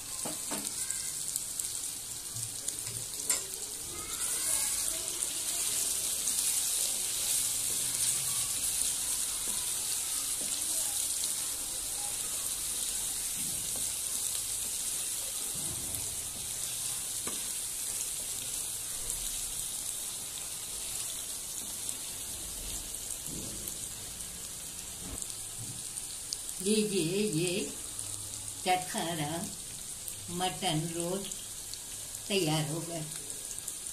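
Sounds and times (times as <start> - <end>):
meat sizzling in oil: 0.0 - 33.9.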